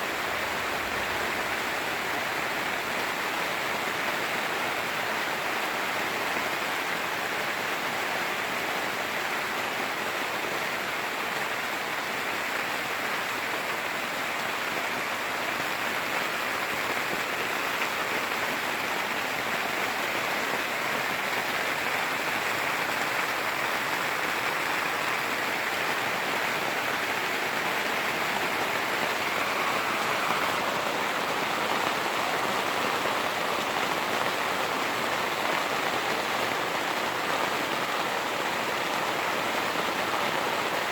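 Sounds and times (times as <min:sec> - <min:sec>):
rain falling on a tent: 0:00.0 - 0:40.9.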